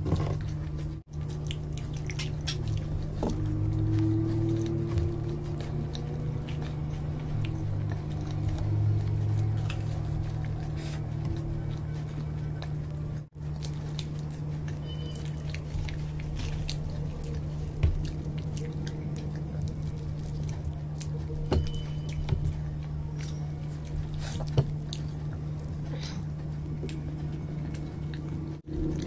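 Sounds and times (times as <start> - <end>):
chewing and squishing: 0.0 - 29.0
low hum: 0.0 - 29.0.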